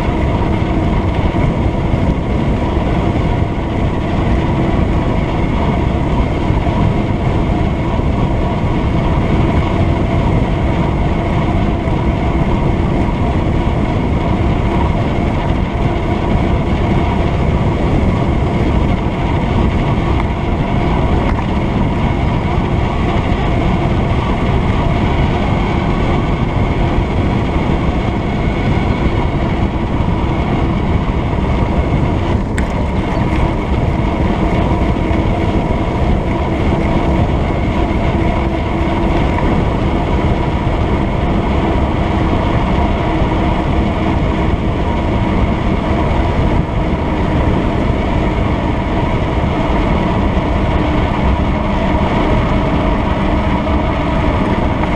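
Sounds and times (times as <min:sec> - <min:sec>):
bike tyre hum: 0:00.0 - 0:54.9
wind on microphone: 0:00.0 - 0:54.9.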